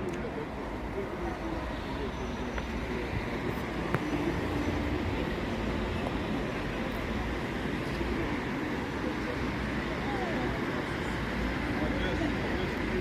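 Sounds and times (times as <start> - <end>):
faint voices talking: 0.0 - 13.0.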